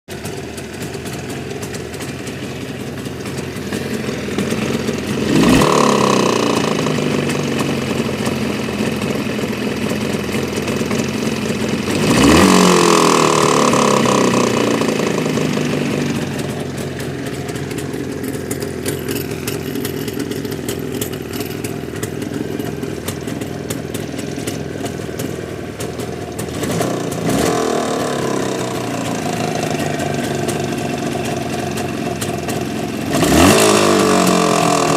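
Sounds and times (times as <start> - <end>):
engine idling and revving: 0.1 - 34.9
engine knocking: 0.1 - 34.9.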